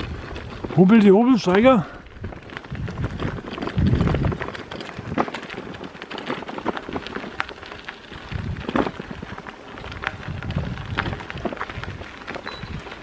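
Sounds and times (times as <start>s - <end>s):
wind buffeting microphone: 0.0s - 5.9s, 6.5s - 13.0s
bicycle tyres on gravel: 0.0s - 13.0s.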